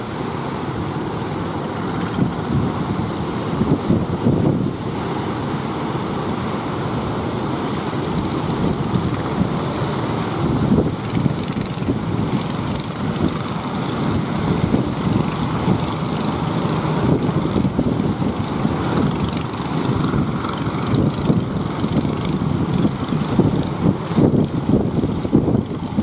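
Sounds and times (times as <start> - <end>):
big waves breaking: 0.0 - 26.0
wind buffeting microphone: 0.9 - 5.1, 6.8 - 26.0.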